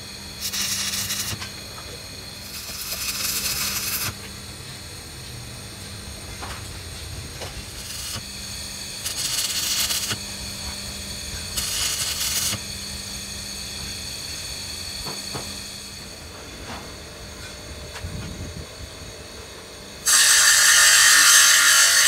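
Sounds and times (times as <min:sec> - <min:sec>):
welding arc crackling and hissing: 0:00.0 - 0:16.2, 0:20.0 - 0:22.0
bench grinder whining: 0:00.0 - 0:19.4, 0:20.0 - 0:22.0
steady low hum: 0:00.0 - 0:20.1.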